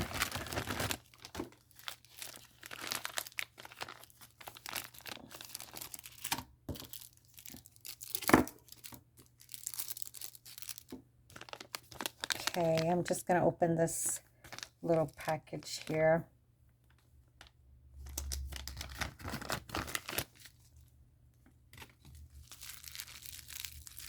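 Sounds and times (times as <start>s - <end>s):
plastic packaging crinkling: 0.0s - 13.2s, 14.4s - 16.0s, 16.9s - 20.9s, 21.7s - 24.0s.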